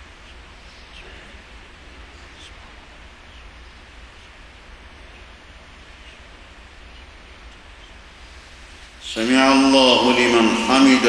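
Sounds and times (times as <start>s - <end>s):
steady hiss and low hum: 0.0s - 11.0s.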